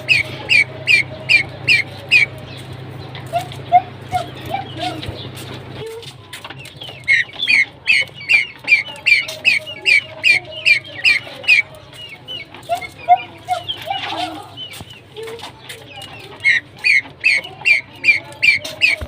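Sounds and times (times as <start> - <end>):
pheasants calling: 0.0 - 19.0.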